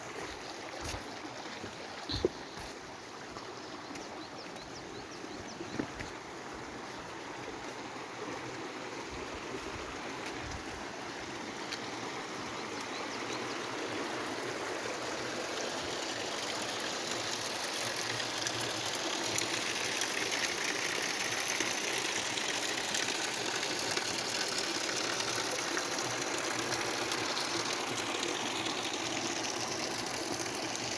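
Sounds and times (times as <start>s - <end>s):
stream and waterfall rushing: 0.0s - 30.9s.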